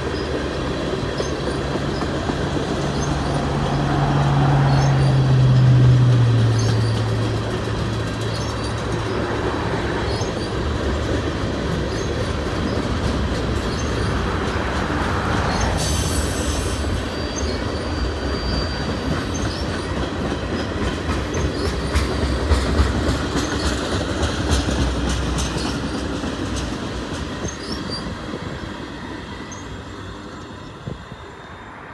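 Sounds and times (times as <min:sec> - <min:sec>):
low locomotive drone: 0:00.0 - 0:31.9
train wheels clacking and squealing: 0:00.0 - 0:31.9.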